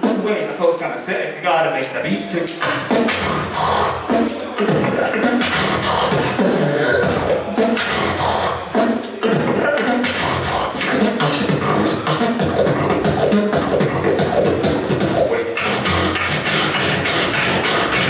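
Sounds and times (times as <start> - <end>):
beatboxing through a microphone: 0.0 - 18.0.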